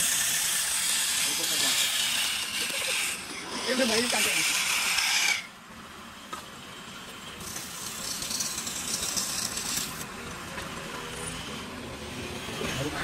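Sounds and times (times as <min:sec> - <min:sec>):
wood lathe running: 0:00.0 - 0:05.7, 0:06.9 - 0:13.0.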